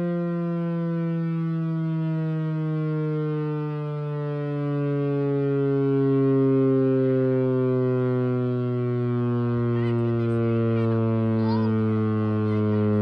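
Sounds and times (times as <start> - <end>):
air raid siren howling: 0.0 - 13.0.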